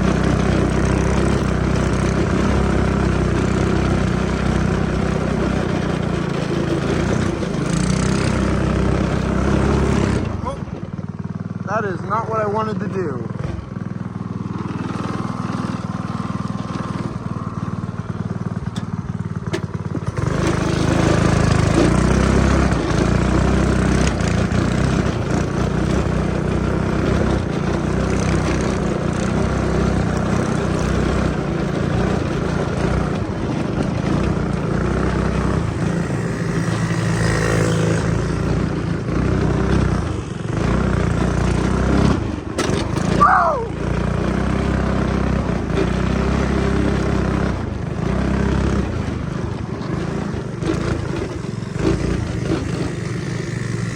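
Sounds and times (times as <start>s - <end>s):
small engine running: 0.0s - 53.9s.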